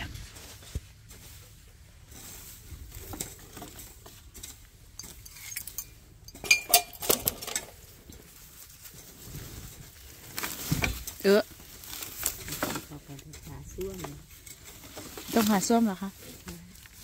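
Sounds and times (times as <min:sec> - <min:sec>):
rustling in leafy undergrowth: 0:00.0 - 0:06.3, 0:07.0 - 0:17.0.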